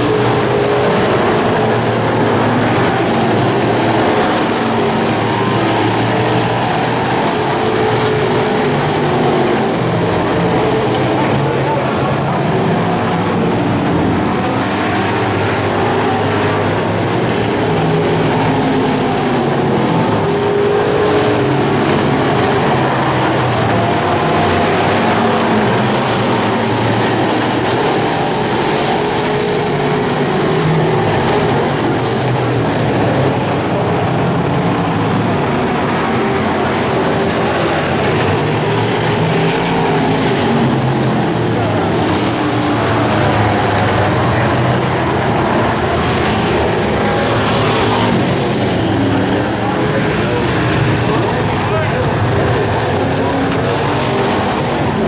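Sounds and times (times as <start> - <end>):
race car engines: 0.0 - 55.0.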